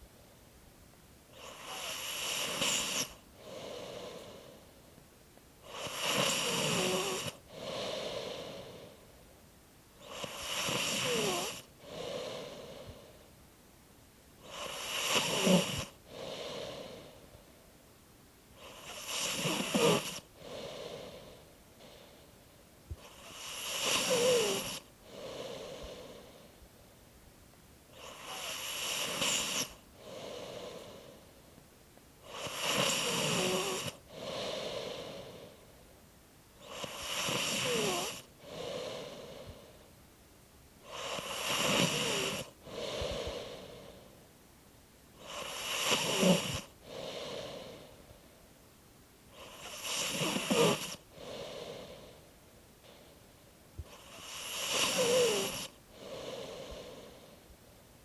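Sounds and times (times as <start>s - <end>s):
slow steady snoring: 1.3s - 4.9s, 5.6s - 9.3s, 10.0s - 13.3s, 14.4s - 17.5s, 18.5s - 26.6s, 27.9s - 31.4s, 32.2s - 35.9s, 36.6s - 39.9s, 40.8s - 44.2s, 45.1s - 48.3s, 49.3s - 57.5s.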